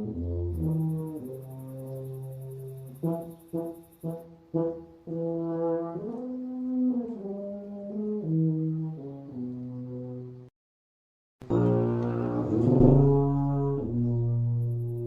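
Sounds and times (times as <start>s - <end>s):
low brass music: 0.0s - 10.5s, 11.4s - 15.0s.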